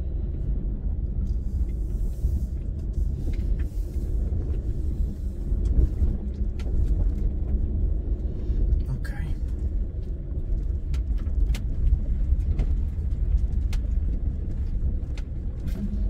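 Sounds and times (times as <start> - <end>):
engine and tyres on gravel: 0.0 - 16.0.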